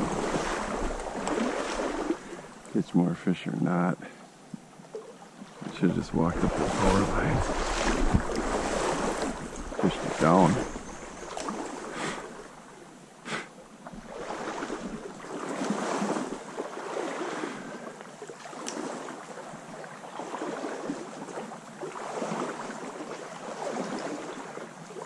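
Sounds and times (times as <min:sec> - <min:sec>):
water splashing around wading legs: 0:00.0 - 0:02.8, 0:04.9 - 0:12.7, 0:13.8 - 0:25.0.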